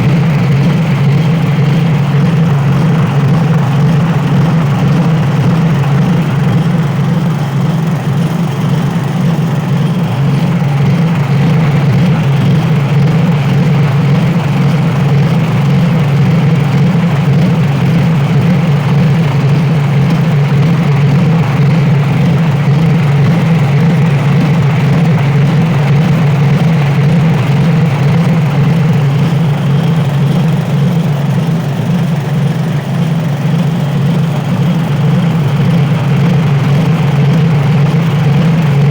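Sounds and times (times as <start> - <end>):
petrol engine running: 0.0 - 38.9.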